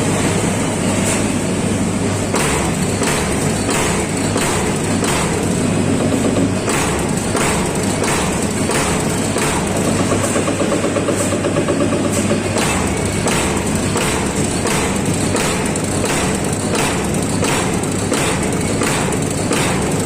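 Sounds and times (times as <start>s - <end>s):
punch press thuds: 2.3s - 20.0s.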